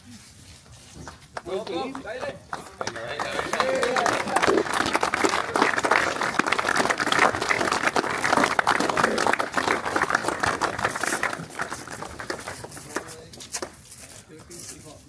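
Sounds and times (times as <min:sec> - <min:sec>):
people applauding: 0:01.4 - 0:13.8.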